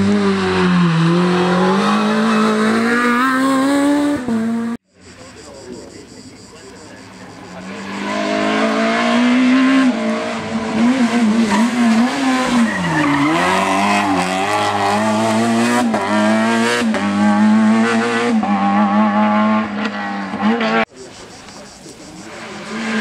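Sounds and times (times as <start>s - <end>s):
rally car engine revving: 0.0s - 4.8s, 6.9s - 23.0s.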